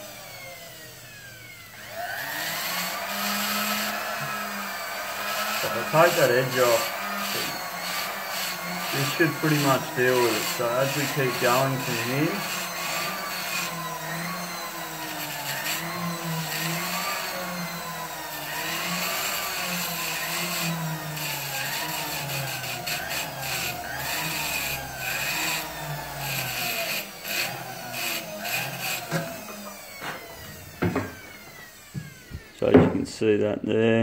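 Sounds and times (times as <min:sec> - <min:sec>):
rotary tool motor whine: 0:00.0 - 0:32.6.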